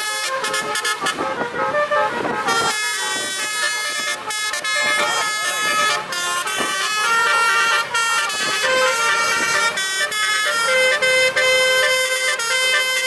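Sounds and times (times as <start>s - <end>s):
musical truck horns playing: 0.0s - 13.0s.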